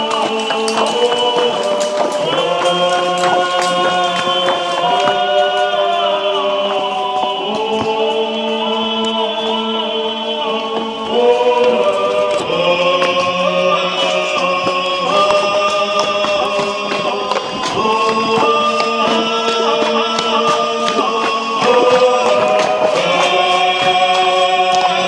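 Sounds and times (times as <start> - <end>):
choir-like vocal chords music: 0.0 - 25.0.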